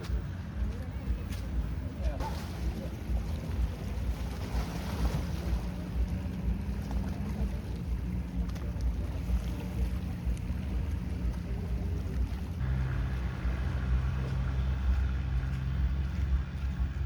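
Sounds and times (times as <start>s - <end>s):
engine low rumble: 0.0s - 17.0s
second engine hum: 0.0s - 17.0s.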